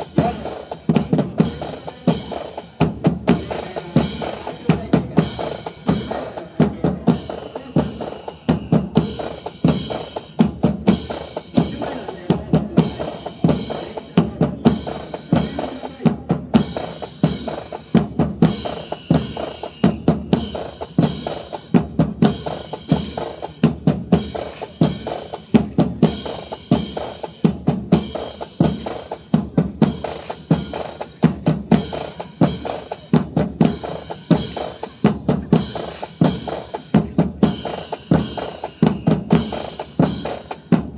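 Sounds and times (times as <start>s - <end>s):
snare and bass drums cadence: 0.0s - 40.9s.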